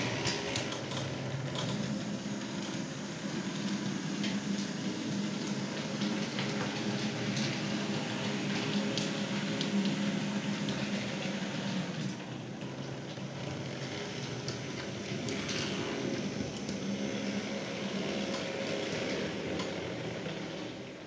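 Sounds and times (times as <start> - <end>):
model tram motors humming: 0.0 - 21.0
rolling wheel noise: 0.0 - 21.0.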